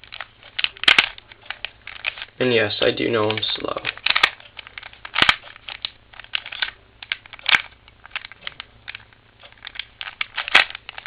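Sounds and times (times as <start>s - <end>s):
plastic puzzle cube clicking: 0.0s - 2.3s, 3.1s - 11.0s.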